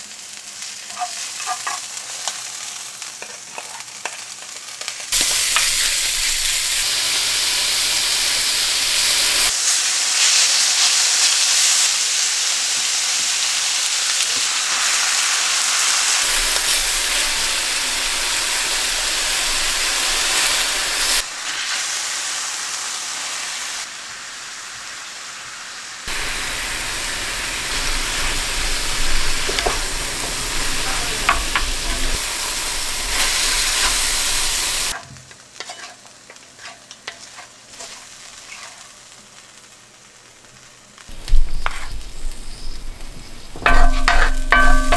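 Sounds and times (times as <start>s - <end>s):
food sizzling in a hot pan: 0.0s - 44.9s.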